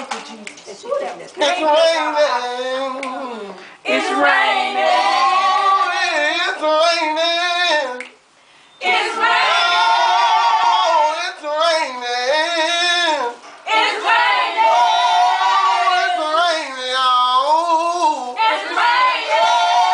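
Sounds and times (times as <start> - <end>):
women singing gospel: 1.0 - 8.0, 8.8 - 19.9.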